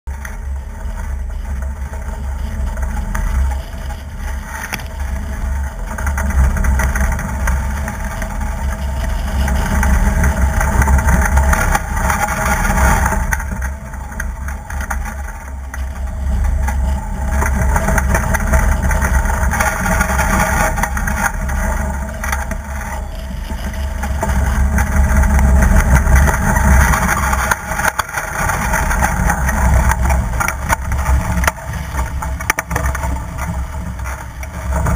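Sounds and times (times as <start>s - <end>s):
water rushing along hull: 0.1s - 34.9s
wind buffeting microphone: 0.1s - 34.9s.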